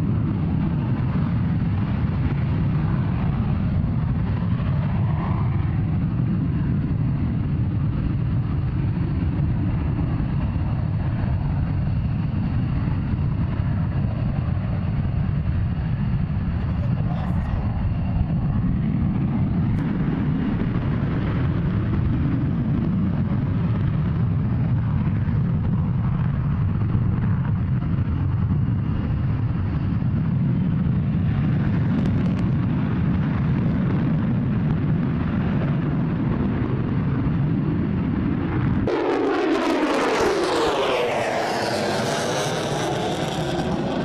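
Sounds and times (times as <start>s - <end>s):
jet engine rumble: 0.0s - 44.0s.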